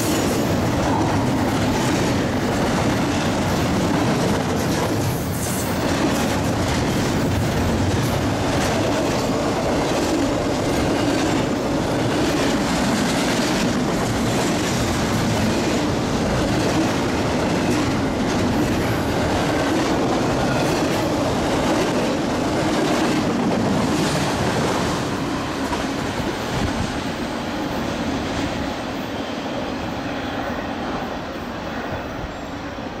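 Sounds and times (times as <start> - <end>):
freight train cars rolling: 0.0 - 30.7.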